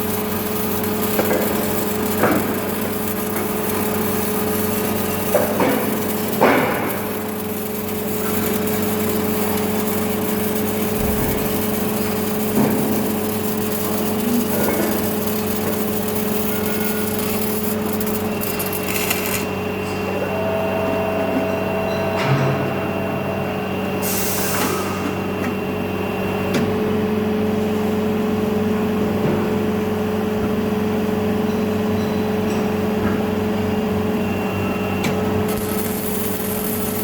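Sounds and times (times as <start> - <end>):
factory machinery hum and whine: 0.0 - 37.0.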